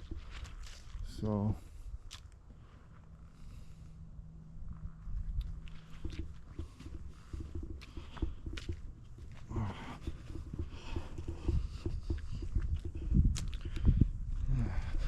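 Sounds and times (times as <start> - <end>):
footsteps on rough ground: 0.0 - 3.8, 4.8 - 15.0.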